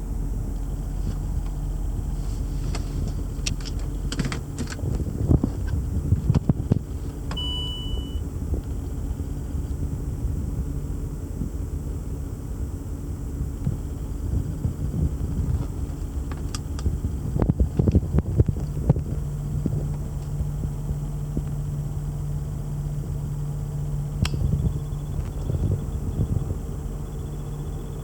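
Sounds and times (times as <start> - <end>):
car engine idling: 0.0 - 28.0
steady low tone: 0.0 - 28.0.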